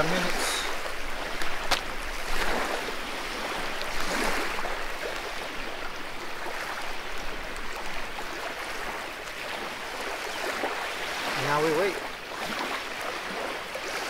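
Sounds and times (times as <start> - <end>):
small waves lapping at shore: 0.0 - 14.0.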